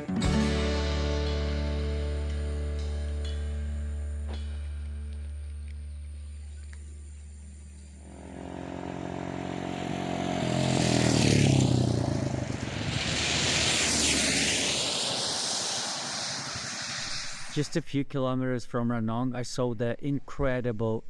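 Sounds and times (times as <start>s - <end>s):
motor vehicles passing by: 0.0s - 17.2s.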